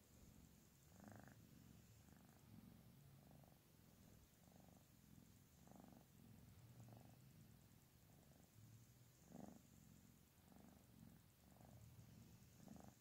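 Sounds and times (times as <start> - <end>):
kitten purring faintly: 0.0 - 13.0.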